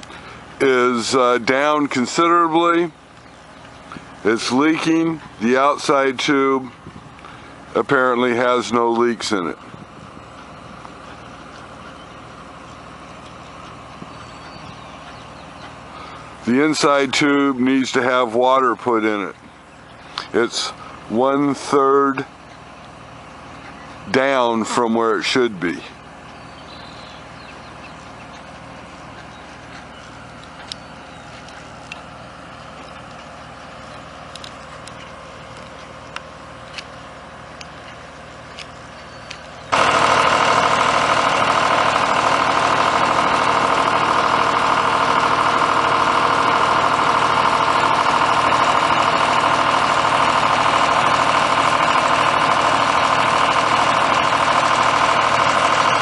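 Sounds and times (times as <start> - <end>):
faint engine hum: 0.0 - 56.0
loud engine running close by: 0.0 - 56.0.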